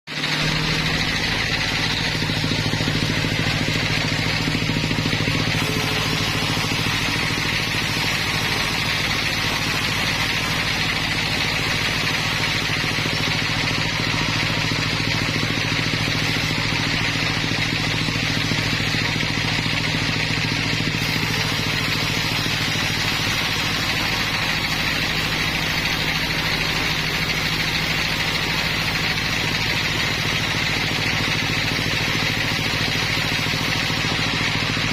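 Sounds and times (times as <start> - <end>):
sawmill machinery humming: 0.1 - 34.9.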